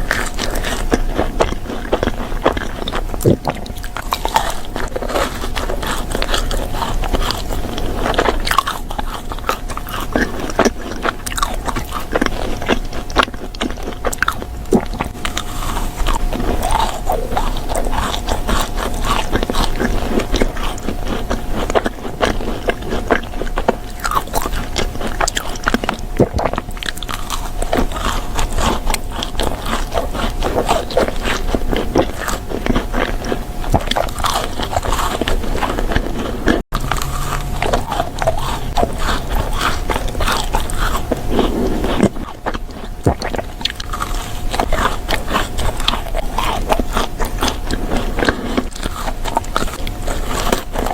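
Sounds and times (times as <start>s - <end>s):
person chewing crunchy food: 0.0s - 50.9s
wet mouth sounds: 0.0s - 50.9s.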